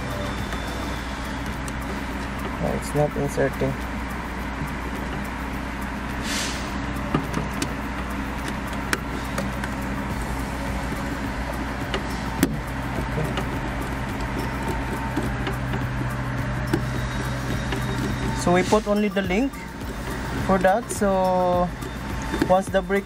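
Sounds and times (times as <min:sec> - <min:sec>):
low machinery drone: 0:00.0 - 0:23.0.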